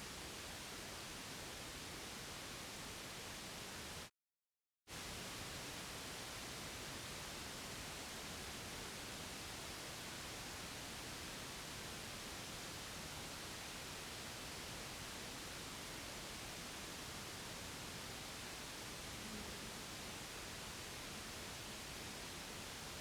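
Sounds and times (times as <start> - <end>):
white noise hiss: 0.0 - 4.1, 4.9 - 23.0.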